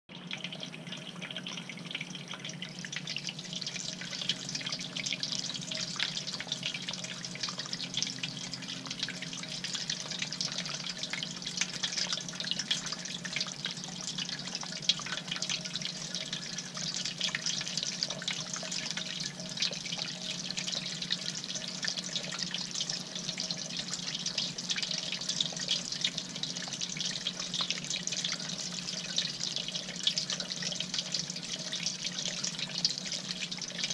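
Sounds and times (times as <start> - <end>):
low steady hum: 0.1 - 33.9
small water drips: 0.1 - 33.9.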